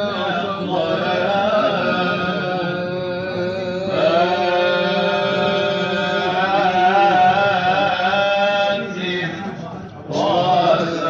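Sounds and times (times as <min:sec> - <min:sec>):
male voices chanting devotional song: 0:00.0 - 0:11.0.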